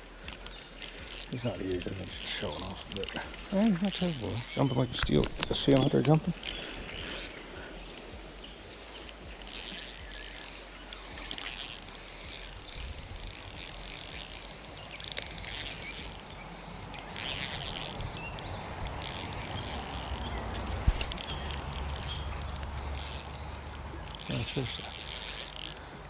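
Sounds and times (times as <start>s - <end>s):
fishing reel ratcheting: 0.0s - 26.0s.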